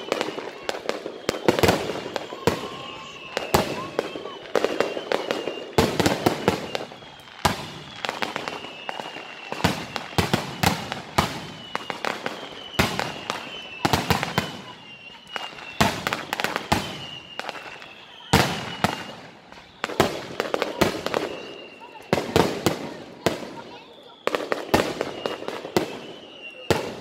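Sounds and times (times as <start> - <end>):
high whistles sliding down: 0.0 - 22.4, 23.6 - 27.0
fireworks bursting and cracking: 0.0 - 27.0.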